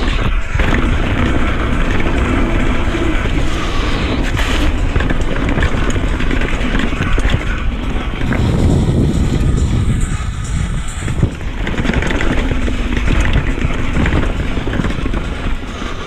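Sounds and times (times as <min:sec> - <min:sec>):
bike knocking and rattling: 0:00.0 - 0:16.0
bike tyres on dirt: 0:00.0 - 0:16.0
wind on microphone: 0:00.0 - 0:16.0.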